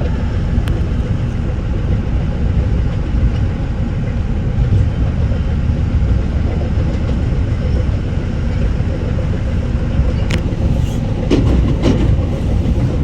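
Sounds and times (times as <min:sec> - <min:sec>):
train coach rumbling on track: 0:00.0 - 0:13.0.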